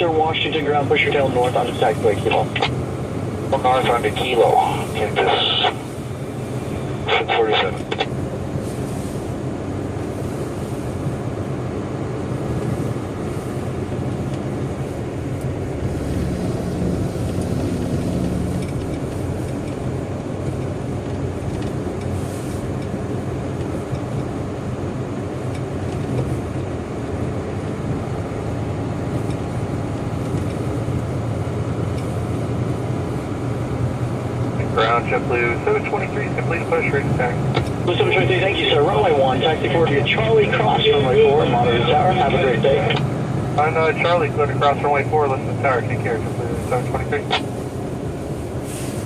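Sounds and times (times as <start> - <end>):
aircraft engines idling: 0.0 - 49.0
low rumble of ramp traffic: 0.0 - 49.0.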